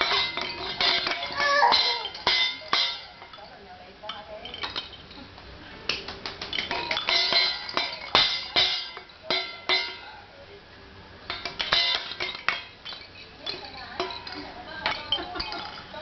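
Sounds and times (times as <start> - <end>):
pots and pans banging: 0.0 - 5.4, 6.0 - 10.2, 11.2 - 16.0.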